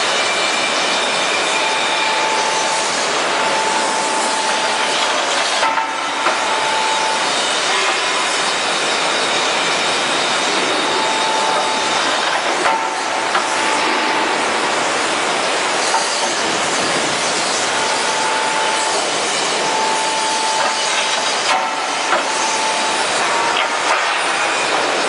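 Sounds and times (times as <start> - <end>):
high steady whine: 0.0 - 25.0
hydraulic machine hissing: 0.0 - 25.0.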